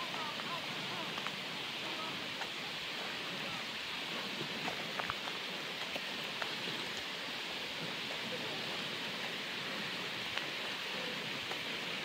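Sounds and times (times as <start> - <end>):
faint ticks: 0.0 - 3.1, 4.6 - 12.0
waterfall rushing: 0.0 - 12.0.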